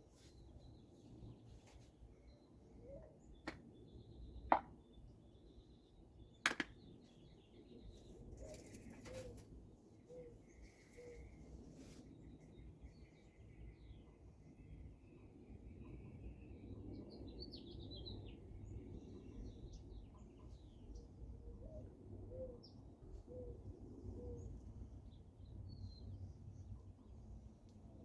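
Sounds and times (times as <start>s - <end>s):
faint birdsong chirps: 0.0s - 28.0s.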